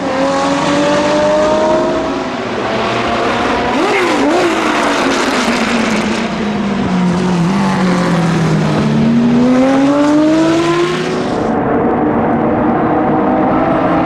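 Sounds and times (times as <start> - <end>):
racing engine accelerating: 0.0 - 14.0.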